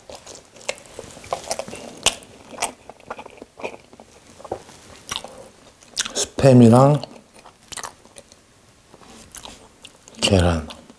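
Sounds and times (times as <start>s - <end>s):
person chewing crunchy food: 0.0s - 10.9s.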